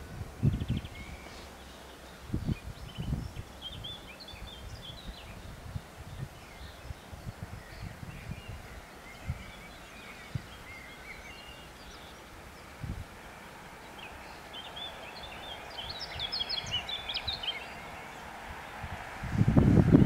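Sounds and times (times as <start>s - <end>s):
songbirds chirping and trilling: 0.0s - 20.0s
wind buffeting microphone: 0.0s - 20.0s.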